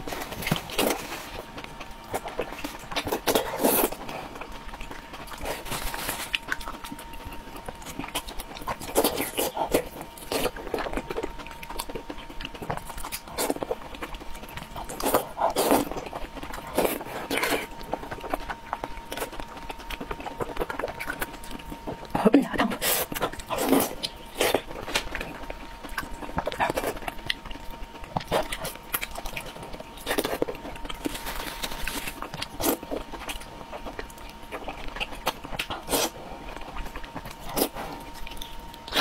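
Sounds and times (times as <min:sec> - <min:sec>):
wet chewing and slurping: 0:00.0 - 0:39.0.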